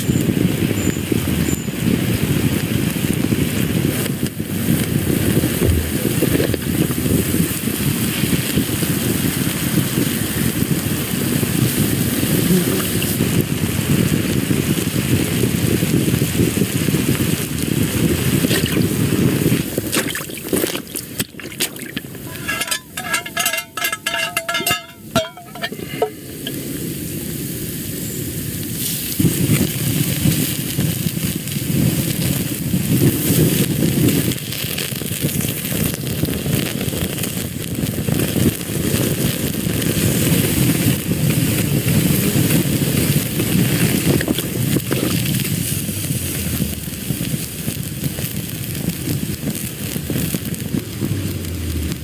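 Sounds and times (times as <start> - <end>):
steaks sizzling with pops: 0.0 - 52.0.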